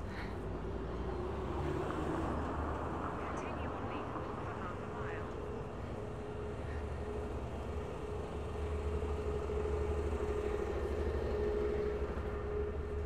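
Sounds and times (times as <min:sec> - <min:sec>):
bus rumbling alongside: 0:00.0 - 0:13.0.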